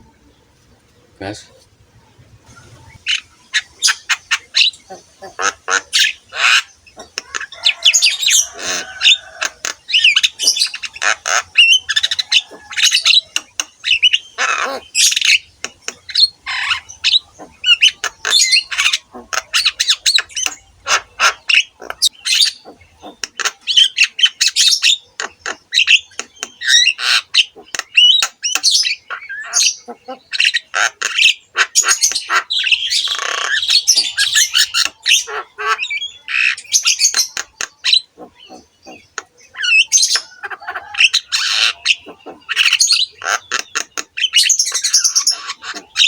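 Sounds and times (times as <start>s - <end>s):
bird singing varied calls: 0.0s - 46.0s.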